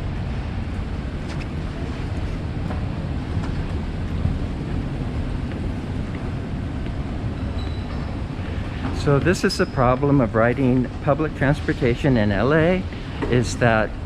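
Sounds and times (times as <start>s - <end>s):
low rumble with buffeting: 0.0s - 14.0s.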